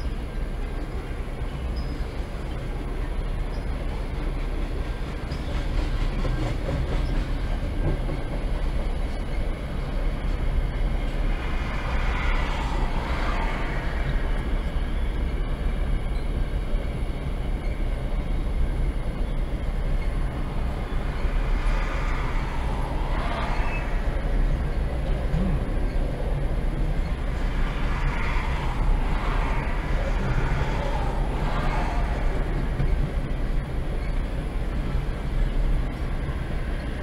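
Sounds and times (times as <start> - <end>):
train wheels clattering on rail: 0.6 - 37.0.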